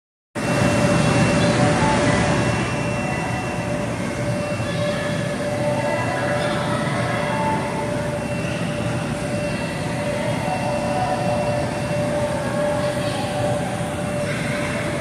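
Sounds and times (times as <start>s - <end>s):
electric blower fans running: 0.4s - 15.0s.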